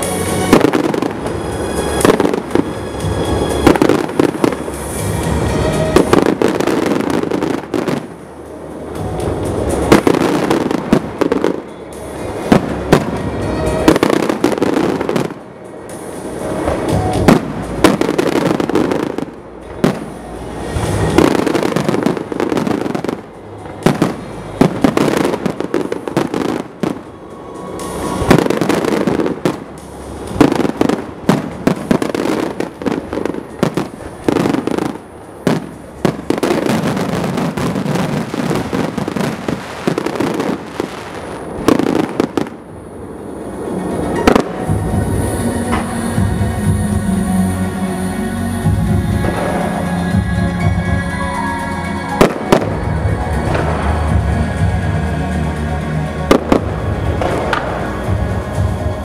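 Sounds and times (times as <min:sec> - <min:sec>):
firework bangs: 0:00.0 - 0:46.5, 0:56.2 - 0:58.9
fireworks rumble and crackle: 0:00.0 - 0:59.0.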